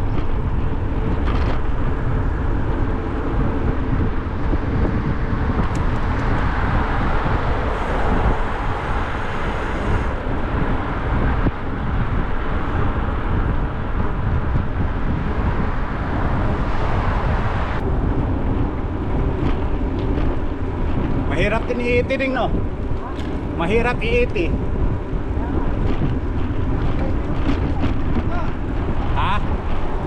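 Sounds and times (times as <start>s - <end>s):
heavy low rumble: 0.0s - 30.0s
wind buffeting microphone: 0.0s - 30.0s.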